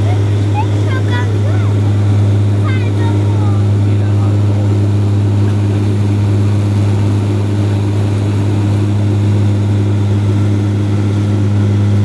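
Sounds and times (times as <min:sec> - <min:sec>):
turboprop propellers droning: 0:00.0 - 0:12.0.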